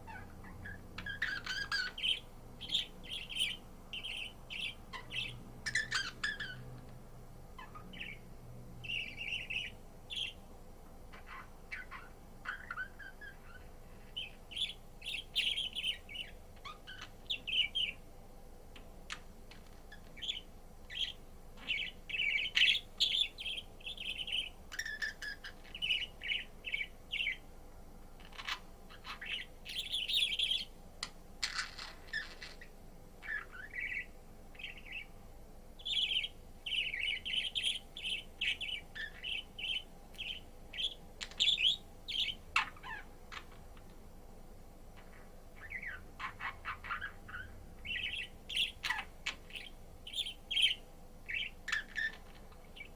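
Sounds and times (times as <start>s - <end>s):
budgerigar chirping and warbling: 0.0s - 6.7s, 7.6s - 8.2s, 8.8s - 10.4s, 11.1s - 18.0s, 19.9s - 27.4s, 28.2s - 30.7s, 31.4s - 35.1s, 35.8s - 43.6s, 45.6s - 52.9s.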